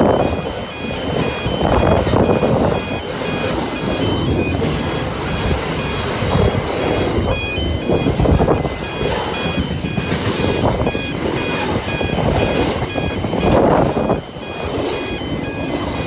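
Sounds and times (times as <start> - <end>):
electronic two-tone beeping: 0.0 - 16.0
freight train rumbling and rattling: 0.0 - 16.0.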